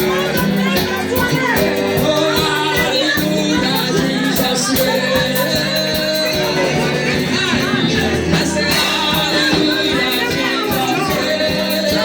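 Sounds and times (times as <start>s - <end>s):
people singing gospel: 0.0s - 12.0s
steady drum beat: 0.0s - 12.0s.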